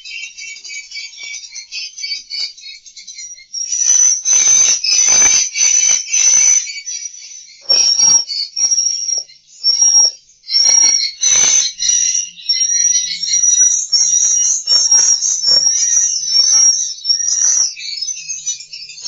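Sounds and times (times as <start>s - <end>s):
high-pitched bird chirps and twitters: 0.0s - 19.0s.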